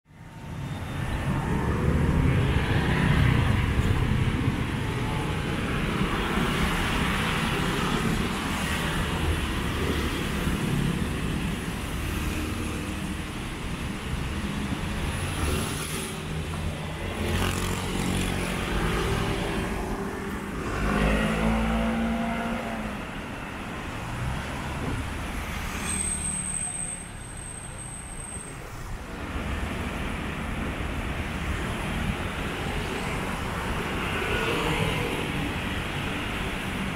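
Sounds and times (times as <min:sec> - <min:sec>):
scooter and car engines: 0:00.6 - 0:36.9.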